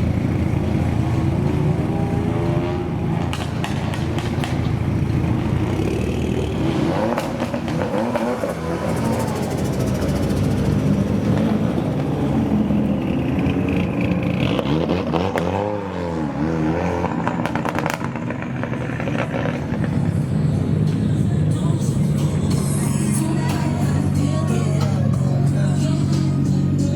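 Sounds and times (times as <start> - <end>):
loud car engine revving: 0.0 - 26.9.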